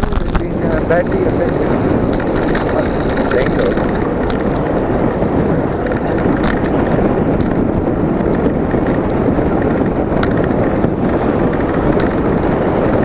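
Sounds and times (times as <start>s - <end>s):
road and traffic noise: 0.0s - 13.0s
wind rushing over microphone: 0.0s - 13.0s.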